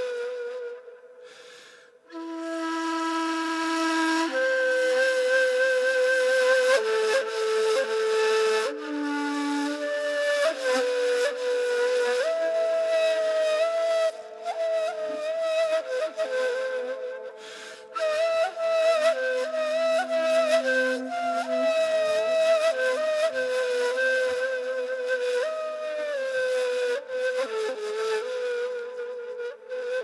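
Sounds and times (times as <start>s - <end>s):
breathy end-blown flute solo: 0.0s - 30.0s.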